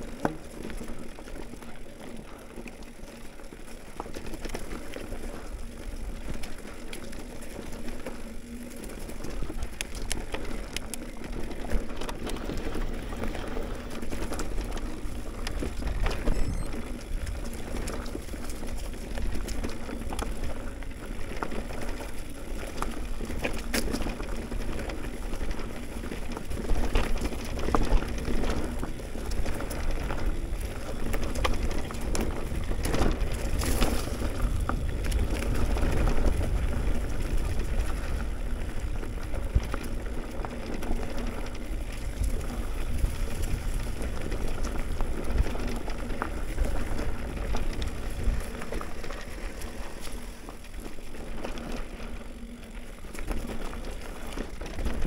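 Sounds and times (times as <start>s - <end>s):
bike rattling over bumps: 0.0s - 55.0s
tyres crackling over gravel: 0.0s - 55.0s
wind rumble on microphone: 3.5s - 55.0s.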